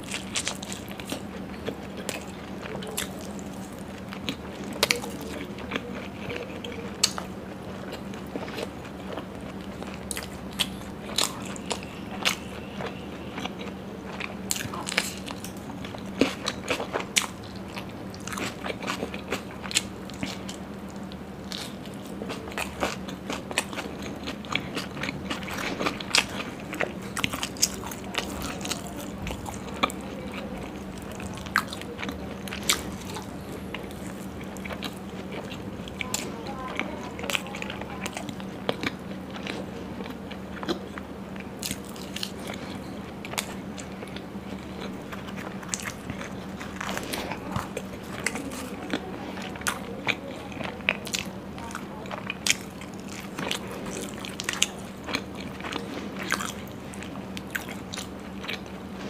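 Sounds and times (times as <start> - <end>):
steady low hum: 0.0 - 59.0
wet chewing and crunching: 0.0 - 59.0.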